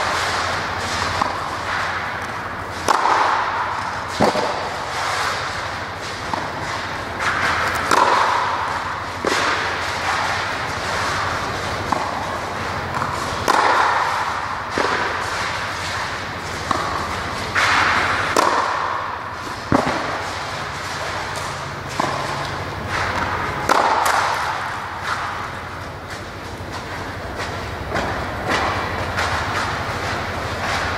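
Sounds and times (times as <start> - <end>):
steady rushing background noise: 0.0 - 30.9
tennis balls bouncing on court: 0.0 - 30.9
tennis balls struck with racket: 0.0 - 30.9.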